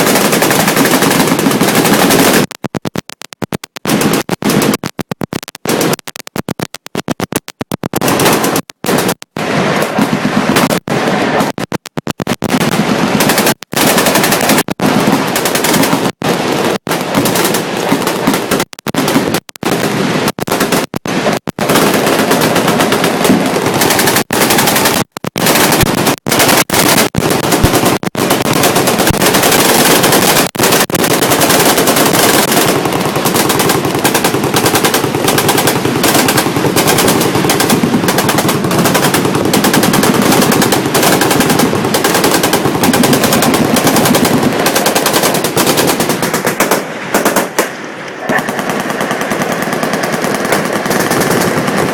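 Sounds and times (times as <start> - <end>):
machine guns firing bursts: 0.0 - 51.9.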